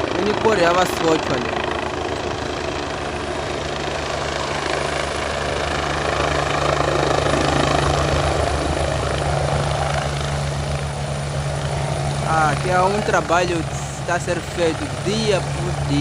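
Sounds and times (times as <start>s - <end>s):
helicopter rotor chop: 0.0s - 16.0s
helicopter turbine whine: 0.0s - 16.0s.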